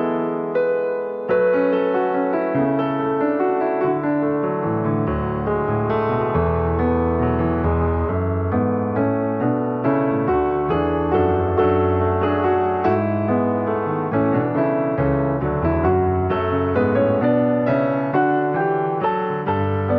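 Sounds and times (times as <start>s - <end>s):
gentle piano music: 0.0s - 19.9s.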